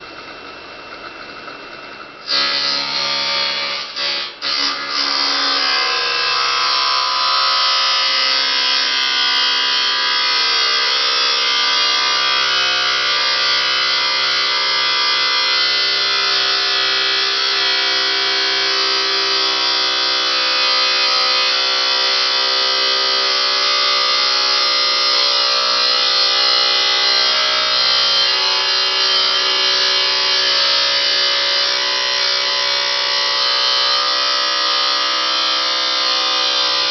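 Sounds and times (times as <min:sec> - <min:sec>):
angle grinder cutting metal pipe: 0:00.0 - 0:36.9.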